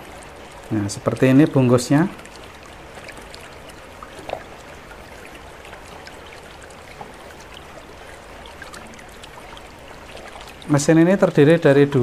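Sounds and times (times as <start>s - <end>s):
running water trickling: 0.0s - 12.0s.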